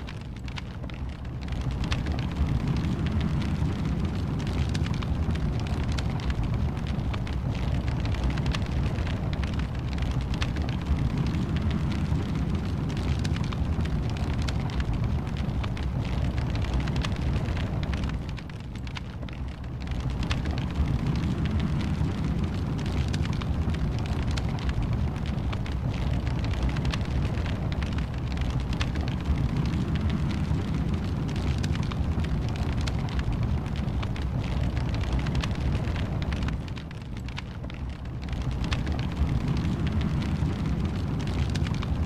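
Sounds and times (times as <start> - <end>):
fire crackling and popping: 0.0 - 42.0
fire roaring: 0.0 - 42.0.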